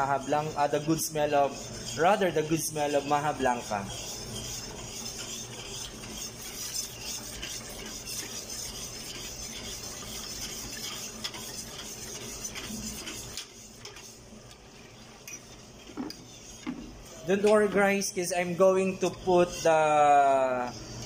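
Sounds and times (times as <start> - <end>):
whisk scraping metal pot: 0.0 - 21.0.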